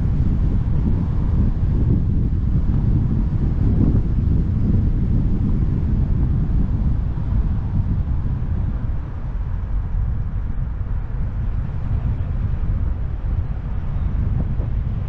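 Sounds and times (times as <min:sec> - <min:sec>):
wind rushing past microphone: 0:00.0 - 0:15.0.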